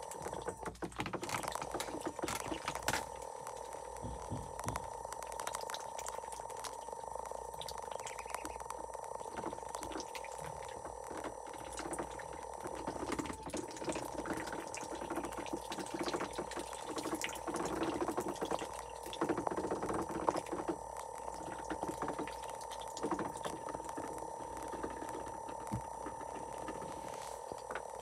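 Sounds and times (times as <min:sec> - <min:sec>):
ducks dabbling in water: 0:00.0 - 0:26.8.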